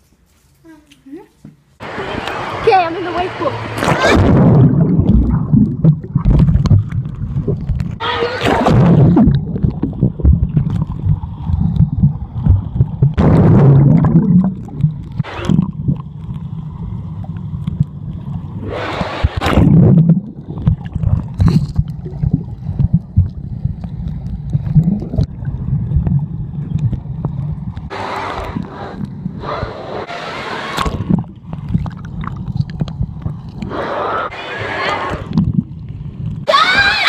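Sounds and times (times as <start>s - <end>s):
muffled underwater rumbling and gurgling: 3.8s - 36.5s.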